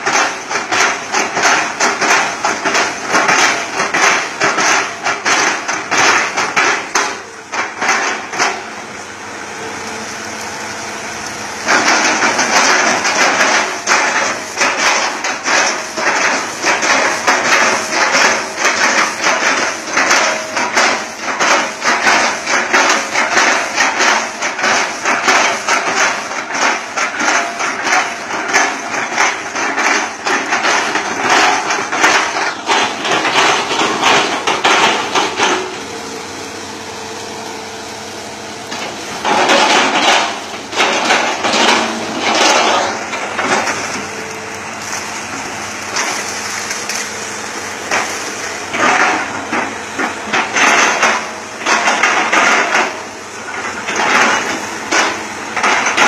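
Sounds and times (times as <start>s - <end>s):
engine hum: 0.0s - 56.0s
excavator knocking and clattering: 0.0s - 56.0s.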